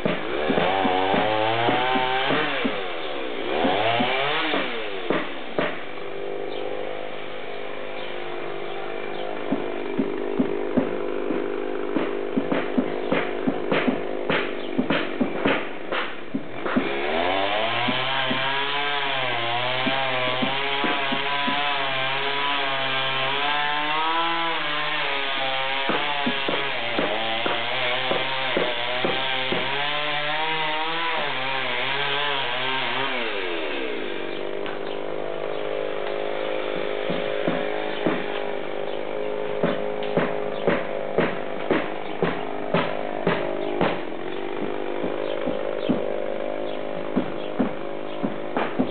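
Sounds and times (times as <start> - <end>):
wood cracking: 0.0 - 6.9, 8.1 - 48.9
chainsaw cutting wood: 0.0 - 48.9.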